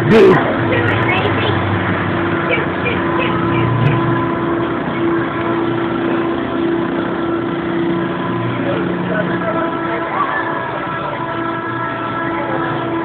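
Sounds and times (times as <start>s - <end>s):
amusement ride machinery humming: 0.0s - 13.0s.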